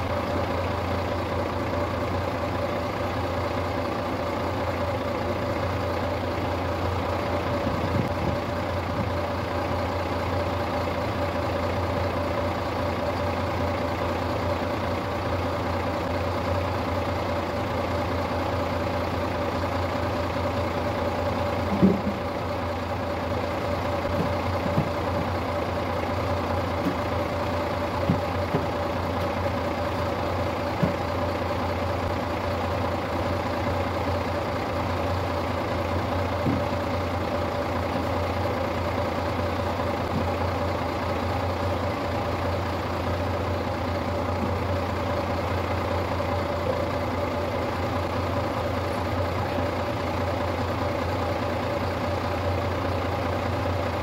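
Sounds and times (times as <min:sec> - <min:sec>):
engine knocks: 0:00.0 - 0:14.4, 0:18.8 - 0:54.0
diesel truck engine idling: 0:00.0 - 0:54.0.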